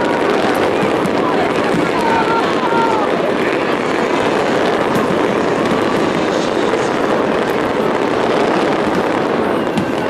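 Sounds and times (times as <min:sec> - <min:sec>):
fireworks barrage: 0:00.0 - 0:10.0.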